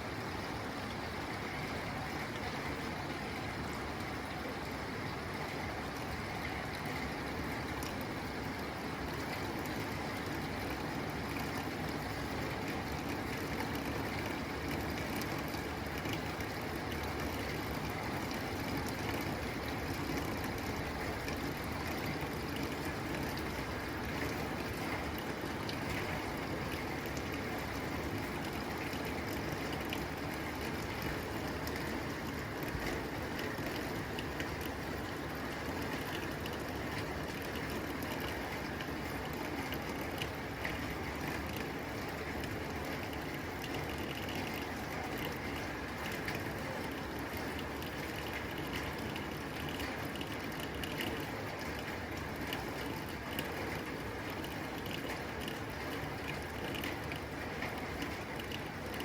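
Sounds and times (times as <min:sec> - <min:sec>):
rain on a tin roof: 0:00.0 - 0:59.0.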